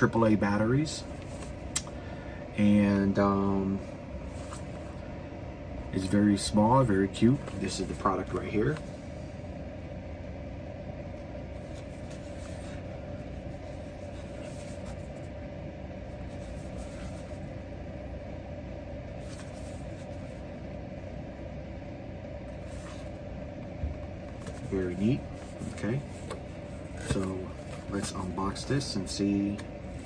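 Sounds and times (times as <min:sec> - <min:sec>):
room hum and hiss: 0:00.0 - 0:30.0.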